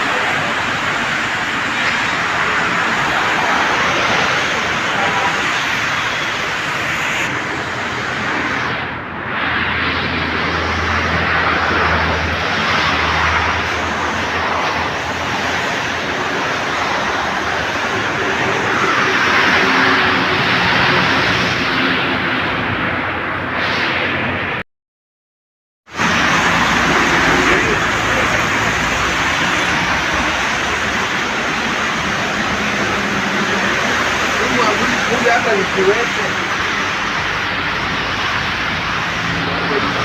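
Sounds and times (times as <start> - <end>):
heavy rain: 0.0 - 24.6, 25.9 - 40.0.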